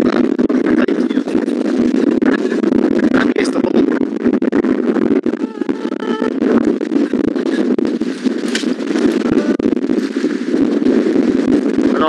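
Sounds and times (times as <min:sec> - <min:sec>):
crackles and clicks: 0:00.0 - 0:12.0
rain and wind on microphone: 0:00.0 - 0:12.0.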